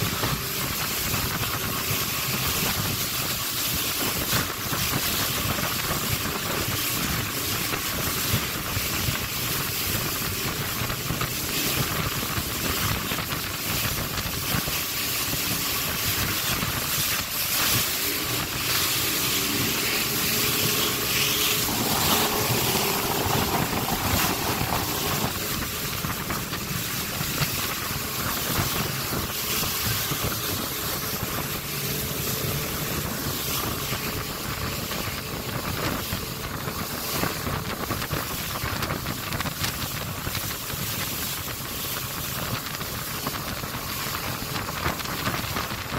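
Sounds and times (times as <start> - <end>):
outboard motor running: 0.0 - 45.9
water rushing off hull: 0.0 - 45.9
wind buffeting microphone: 0.0 - 45.9.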